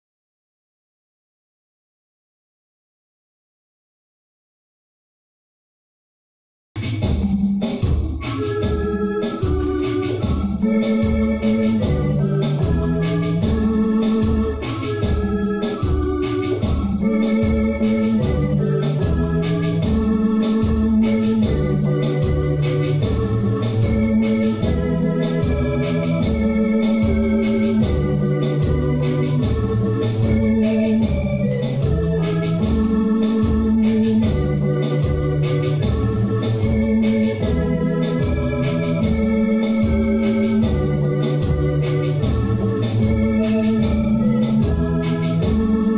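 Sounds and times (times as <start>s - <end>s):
electronic organ chords: 6.8s - 45.9s
steady drum beat: 6.8s - 45.9s.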